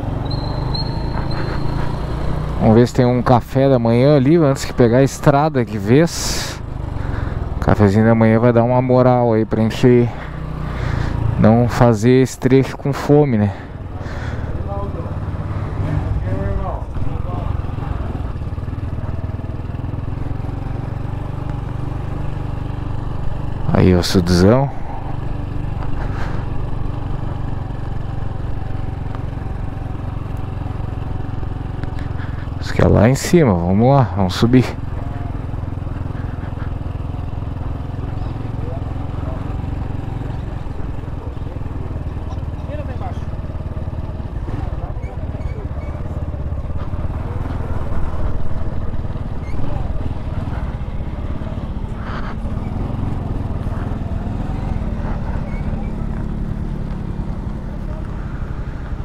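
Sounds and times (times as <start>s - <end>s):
motorcycle engine running steadily: 0.0s - 59.0s.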